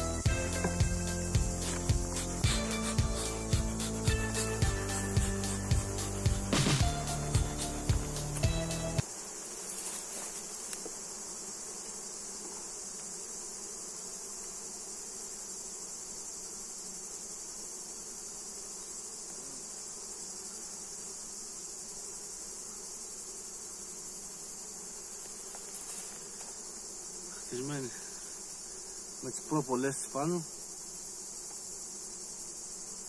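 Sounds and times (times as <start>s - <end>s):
high-pitched insect trill: 0.0s - 33.0s
honeybees buzzing: 0.0s - 33.0s.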